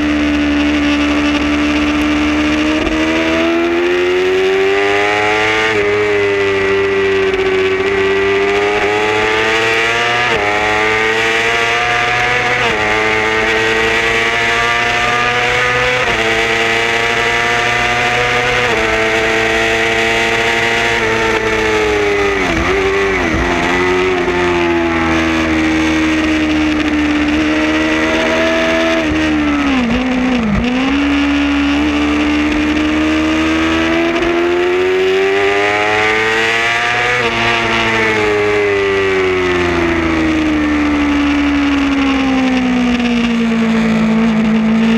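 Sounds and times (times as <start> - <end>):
racing motorcycle engine: 0.0 - 44.9.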